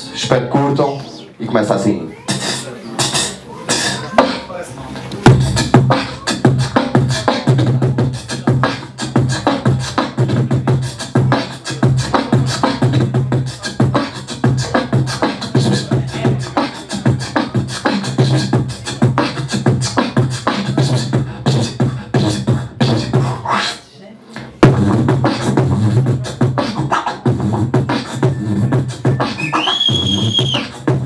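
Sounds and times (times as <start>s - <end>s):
beatbox groove: 0.0s - 31.0s.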